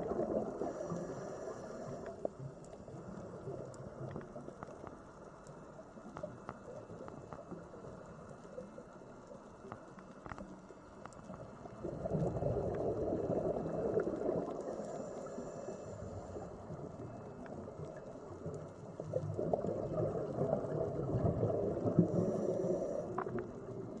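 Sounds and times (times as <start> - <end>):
muffled rushing water: 0.0 - 24.0
underwater bubbling: 0.0 - 24.0.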